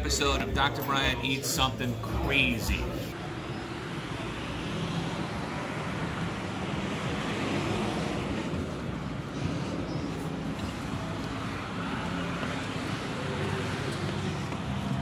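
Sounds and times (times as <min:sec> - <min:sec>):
street ambience rumble and hiss: 0:00.0 - 0:15.0.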